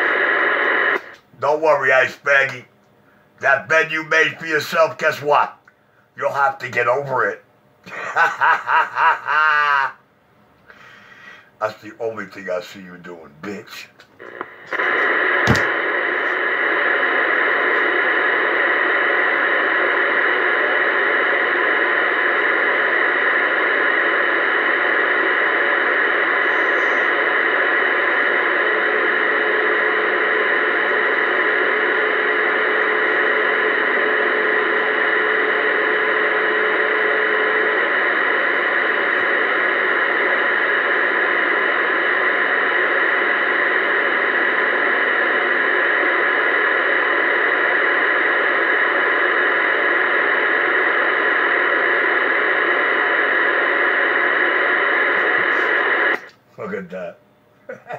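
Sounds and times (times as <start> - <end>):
radio static hiss: 0.0 - 2.7, 3.4 - 10.0, 10.7 - 57.9.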